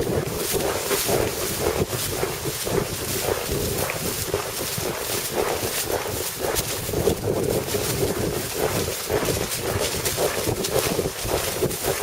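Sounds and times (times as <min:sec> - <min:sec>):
horse hooves knocking: 0:00.0 - 0:12.0
wind buffeting microphone: 0:00.0 - 0:12.0.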